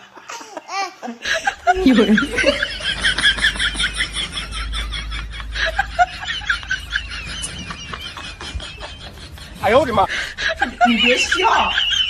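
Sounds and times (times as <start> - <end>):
steady low rumble: 1.4 - 12.0.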